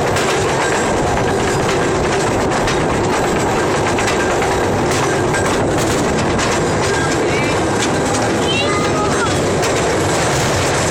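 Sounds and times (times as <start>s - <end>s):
train rumbling along track: 0.0s - 10.9s
wheels clicking over rail joints: 0.0s - 10.9s.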